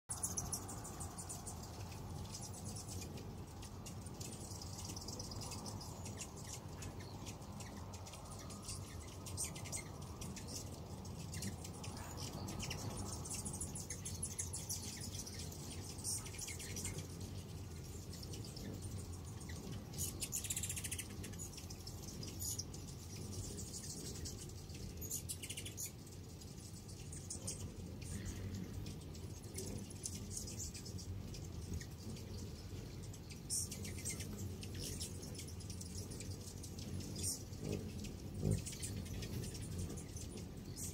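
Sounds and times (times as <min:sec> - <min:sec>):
hummingbirds chipping and twittering: 0:00.1 - 0:40.9
low steady hum: 0:00.1 - 0:40.9.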